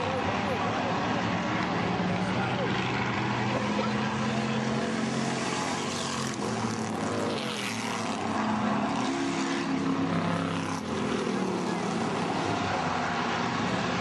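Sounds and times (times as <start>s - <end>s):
race car engines droning: 0.0s - 14.0s.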